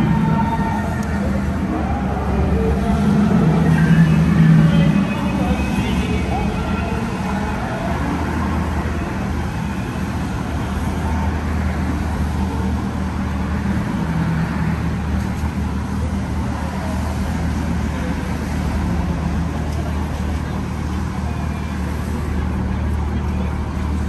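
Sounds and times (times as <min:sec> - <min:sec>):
road noise hiss: 0:00.0 - 0:24.0
vehicle engine hum: 0:00.0 - 0:24.0.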